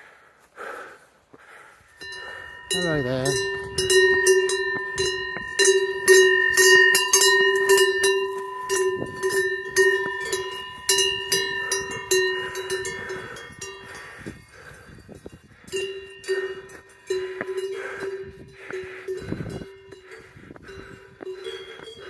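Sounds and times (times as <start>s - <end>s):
cowbell clanking: 1.9s - 22.0s.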